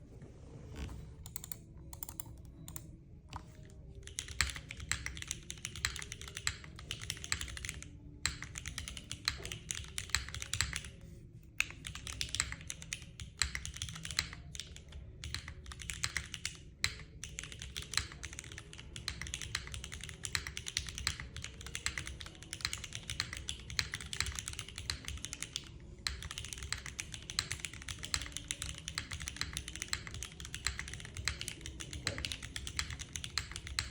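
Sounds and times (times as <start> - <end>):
mechanical keyboard clacks: 1.2 - 3.4, 4.0 - 10.9, 11.6 - 33.9.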